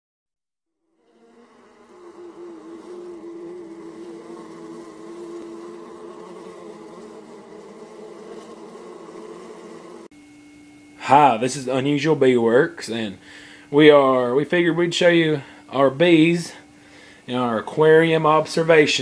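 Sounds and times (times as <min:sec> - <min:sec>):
bees buzzing: 0:00.8 - 0:19.0.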